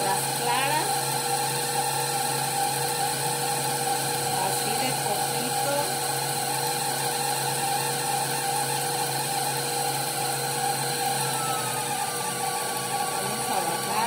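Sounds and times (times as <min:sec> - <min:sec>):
electric stand mixer running: 0:00.0 - 0:14.0
whisk beating egg whites: 0:00.0 - 0:14.0.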